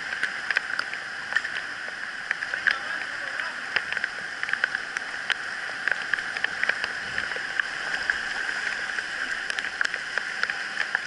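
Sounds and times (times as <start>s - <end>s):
sharp water splashes: 0.0s - 11.0s.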